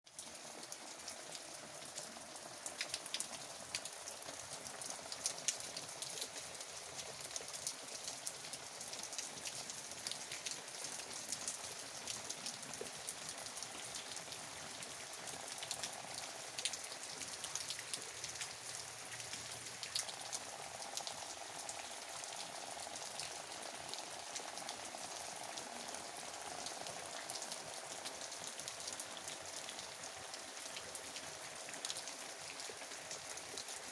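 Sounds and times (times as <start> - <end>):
rain falling: 0.1 - 33.9
raindrops ticking on a surface: 0.1 - 33.9.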